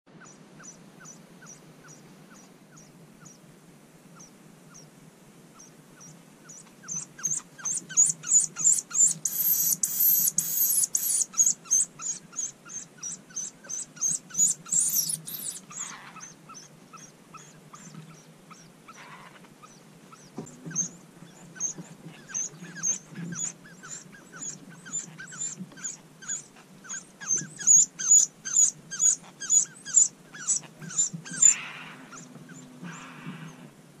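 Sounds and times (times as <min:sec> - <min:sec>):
nestlings squeaky begging calls: 0:00.2 - 0:03.4, 0:04.2 - 0:04.9, 0:05.6 - 0:33.7.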